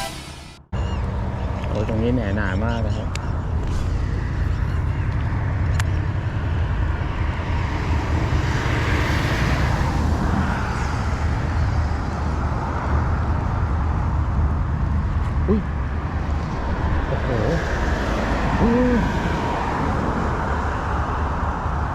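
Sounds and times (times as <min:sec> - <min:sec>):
low outdoor rumble: 0:00.8 - 0:21.9.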